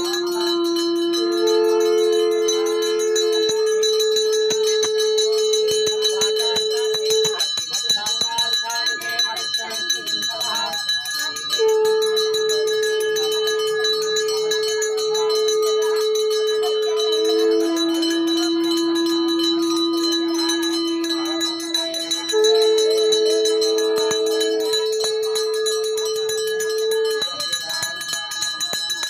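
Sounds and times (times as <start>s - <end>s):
conch shells blown: 0.0s - 7.6s, 10.8s - 29.0s
hand bell rung rapidly: 0.0s - 29.0s.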